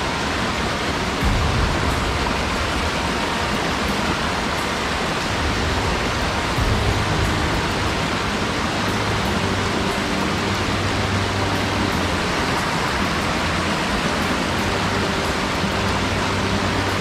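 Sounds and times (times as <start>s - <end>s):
mountain stream rushing: 0.0s - 17.0s
low rumble: 1.2s - 16.7s.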